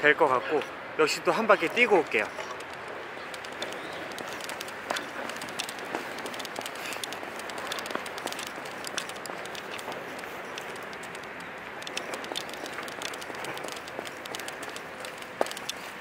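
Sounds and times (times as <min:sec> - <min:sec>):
running footsteps: 0:01.6 - 0:16.0
camera strap clicking: 0:02.6 - 0:16.0.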